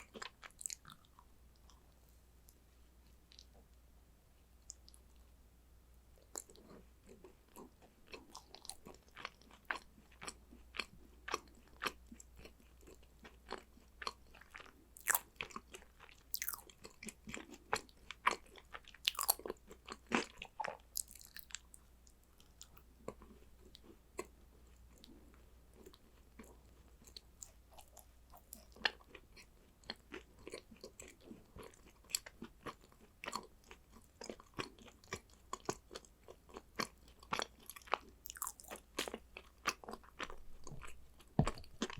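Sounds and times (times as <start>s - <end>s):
person chewing crunchy snacks: 0.0s - 1.8s, 6.2s - 21.8s, 22.4s - 41.9s.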